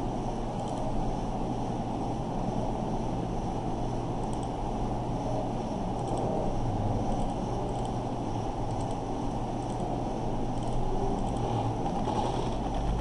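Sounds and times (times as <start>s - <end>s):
low hum of room and microphone: 0.0s - 13.0s.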